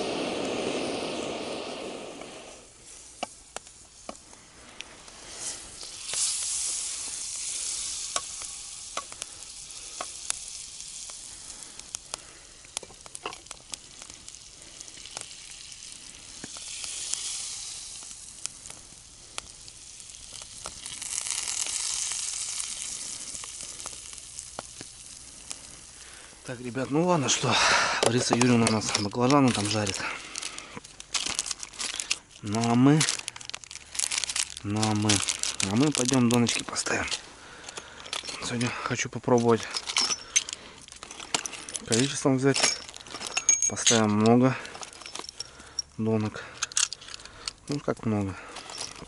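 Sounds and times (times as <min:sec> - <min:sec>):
food sizzling in a frying pan: 0:00.0 - 0:39.6
sharp pops and crackles: 0:00.0 - 0:49.0.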